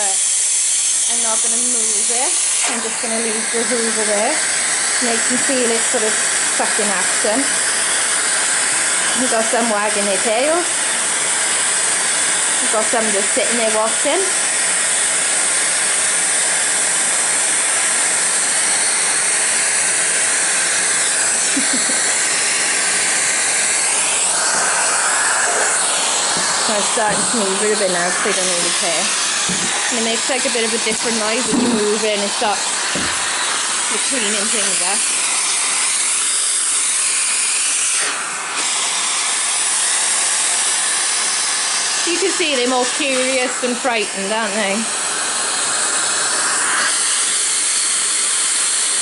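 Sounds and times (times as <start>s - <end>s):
vacuum cleaner motor running: 0.0s - 49.0s.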